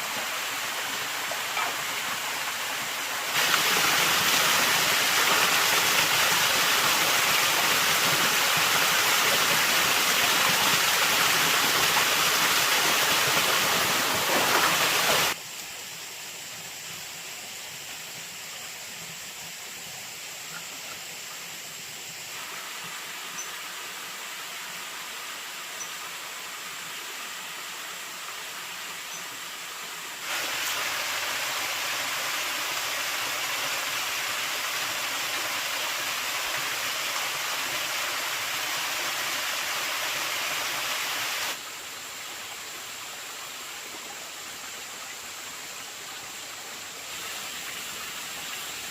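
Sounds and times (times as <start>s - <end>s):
rushing water: 0.0s - 15.7s, 18.3s - 48.9s.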